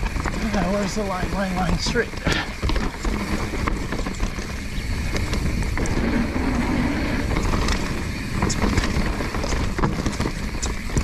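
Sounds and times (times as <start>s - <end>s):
bike rattling: 0.0s - 11.0s
tyres clattering over stones: 0.0s - 11.0s
wind buffeting microphone: 0.0s - 11.0s.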